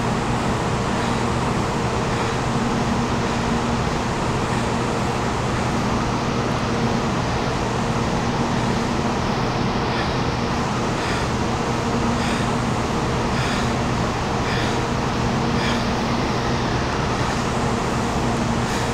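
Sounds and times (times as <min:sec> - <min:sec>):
train equipment humming: 0:00.0 - 0:18.9.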